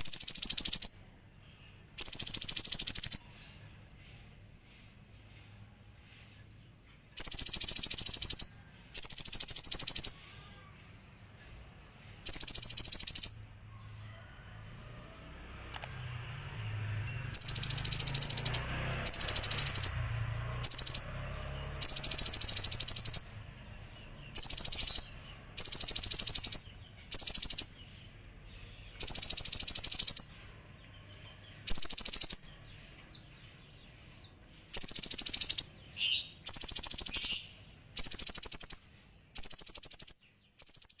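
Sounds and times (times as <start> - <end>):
bird singing buzzy trills: 0.0 - 3.9, 6.6 - 13.6, 16.1 - 41.0.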